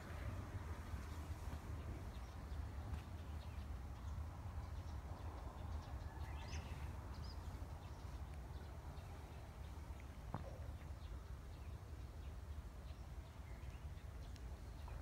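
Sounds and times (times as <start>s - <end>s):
wind rumble on microphone: 0.0s - 15.0s
bird chirping: 1.0s - 15.0s.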